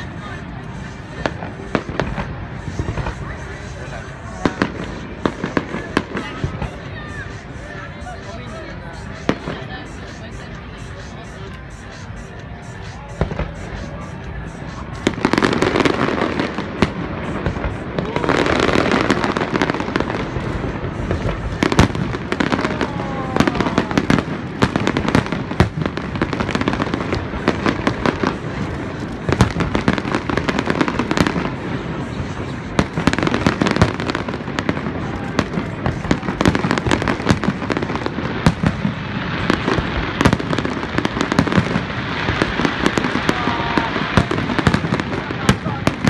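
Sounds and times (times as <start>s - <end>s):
fireworks bursting and crackling: 0.0s - 46.0s.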